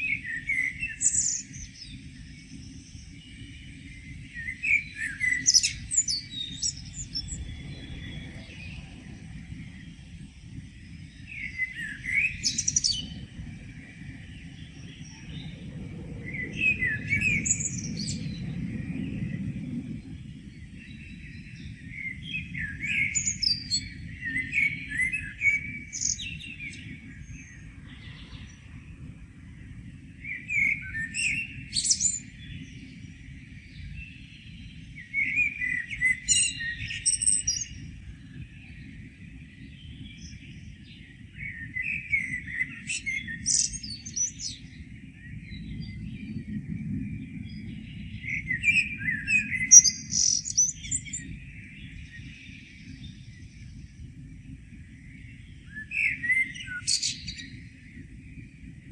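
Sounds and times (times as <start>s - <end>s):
songbirds chirping and trilling: 0.0s - 58.9s.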